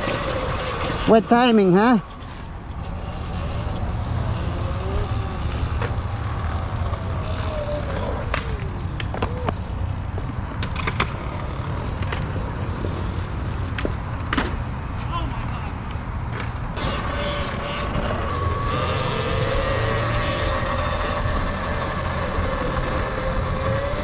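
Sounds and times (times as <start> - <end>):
faint whine sliding down: 0.0 - 14.4, 16.8 - 24.0
wind and road rumble: 0.0 - 24.0.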